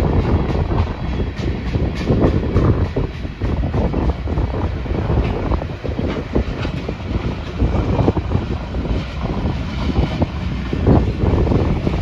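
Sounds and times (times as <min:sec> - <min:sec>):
train wheels rumbling on rails: 0:00.0 - 0:12.0
wind buffeting microphone: 0:00.0 - 0:12.0.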